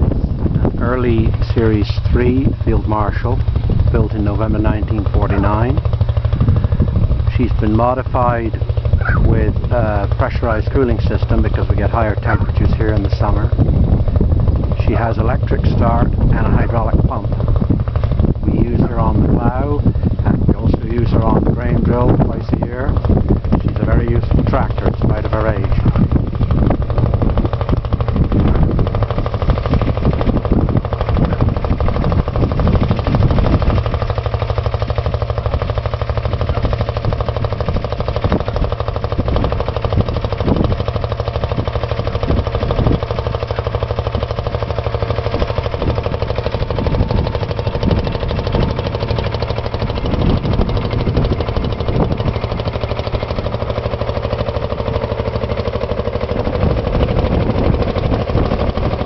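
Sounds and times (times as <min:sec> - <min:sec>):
tractor diesel engine thumping: 0:00.0 - 0:59.0.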